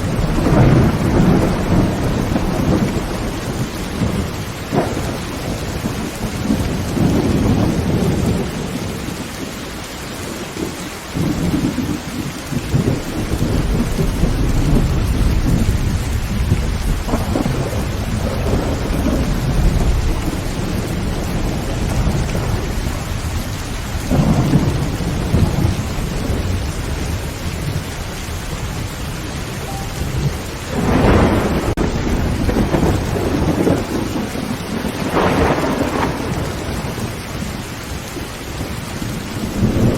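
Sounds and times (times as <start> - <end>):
heavy rain on a tin roof: 0.0 - 39.9
thunder rumbling: 0.0 - 39.9.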